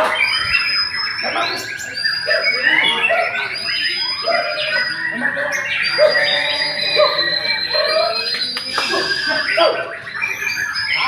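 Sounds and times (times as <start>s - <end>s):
birds high held tones: 0.0s - 11.0s
songbird whistling song: 0.0s - 11.0s.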